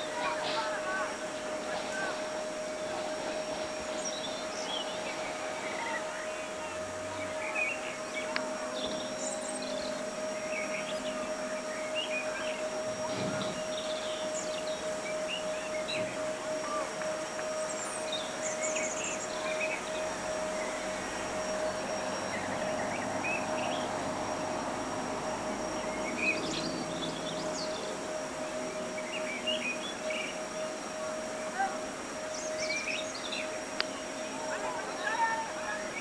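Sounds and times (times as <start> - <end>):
faint constant tone: 0.0 - 36.0
small birds chirping: 0.0 - 36.0.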